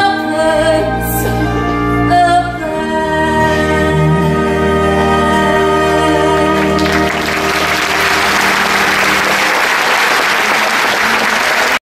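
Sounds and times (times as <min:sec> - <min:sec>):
slow tender music: 0:00.0 - 0:10.7.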